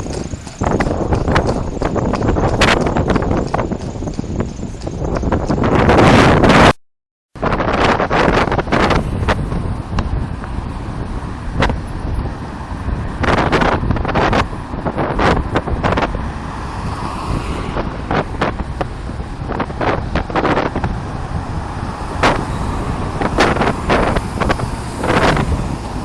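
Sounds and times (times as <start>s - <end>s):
vehicle running: 0.0s - 6.8s, 7.4s - 26.0s
wind rumble on microphone: 0.0s - 6.8s, 7.4s - 26.0s.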